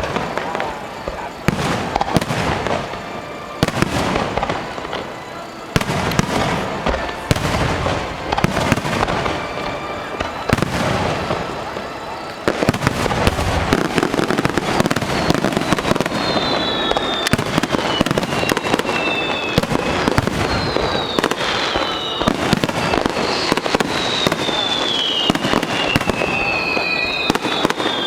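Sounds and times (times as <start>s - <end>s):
fireworks crackling and popping: 0.0s - 28.0s
fireworks high falling whistles: 0.0s - 28.0s.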